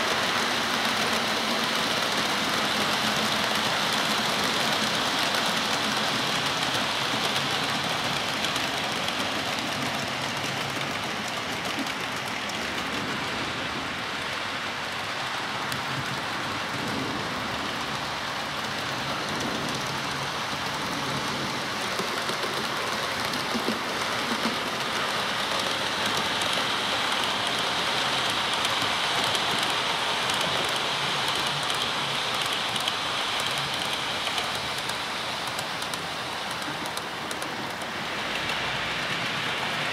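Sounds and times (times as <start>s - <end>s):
model train wheels rumbling on rails: 0.0s - 39.9s.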